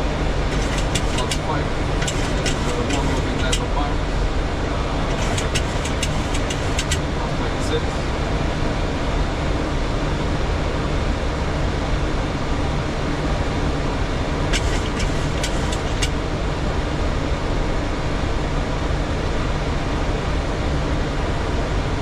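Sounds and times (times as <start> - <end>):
rushing aircraft cabin noise: 0.0 - 19.8.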